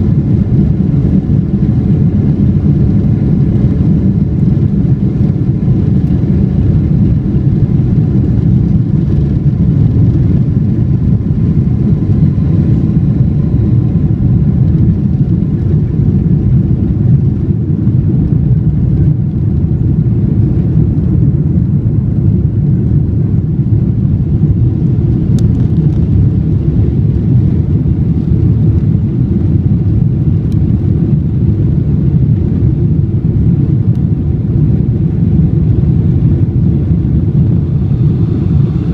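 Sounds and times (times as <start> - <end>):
airplane cabin engine rumble: 0.0 - 38.9
faint steady whine: 0.0 - 38.9.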